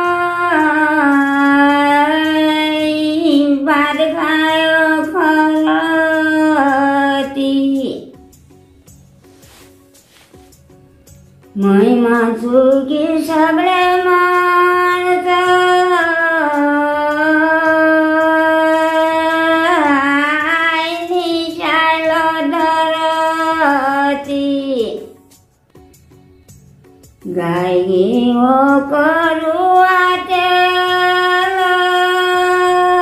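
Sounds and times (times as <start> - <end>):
woman singing unaccompanied: 0.0 - 8.2, 11.5 - 25.2, 27.2 - 33.0.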